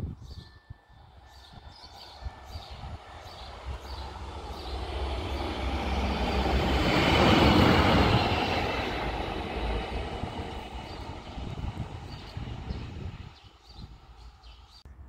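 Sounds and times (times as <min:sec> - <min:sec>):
locomotive passing by: 0:01.0 - 0:14.8.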